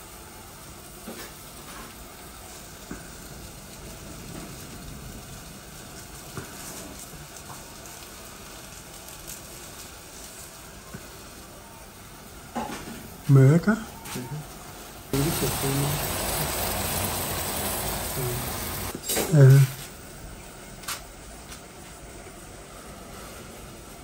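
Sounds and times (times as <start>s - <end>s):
gas burner hissing: 0.0s - 24.0s.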